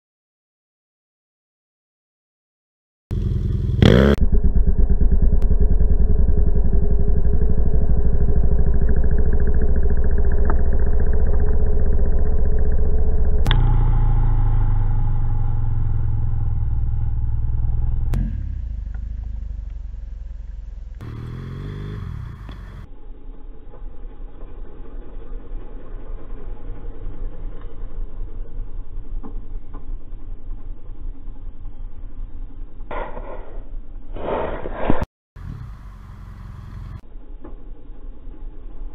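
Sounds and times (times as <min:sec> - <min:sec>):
motorcycle engine running: 0:03.1 - 0:33.1, 0:35.4 - 0:38.9.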